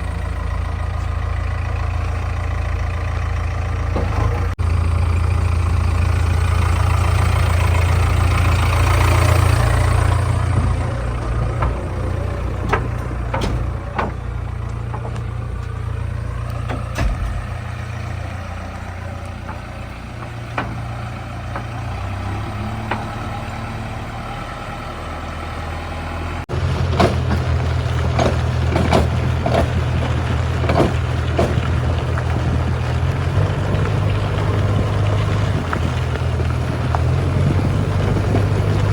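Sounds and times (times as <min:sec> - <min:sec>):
metal clanks and knocks: 0:00.0 - 0:04.8, 0:06.4 - 0:24.0, 0:26.4 - 0:38.8
heavy diesel engines running: 0:00.0 - 0:38.9.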